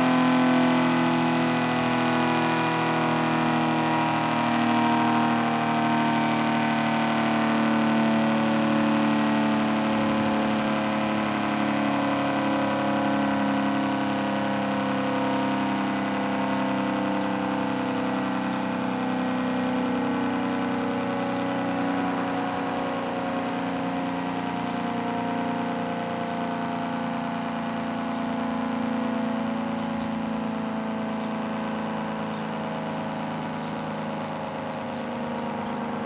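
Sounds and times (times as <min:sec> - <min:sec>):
warning siren steady tone: 0:00.0 - 0:36.0.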